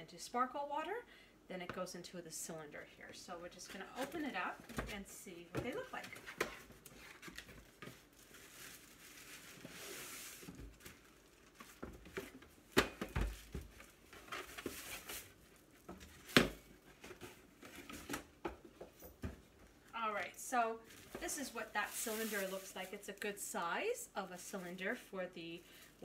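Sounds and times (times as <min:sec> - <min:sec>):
cardboard and plastic rustling: 0:03.5 - 0:26.0.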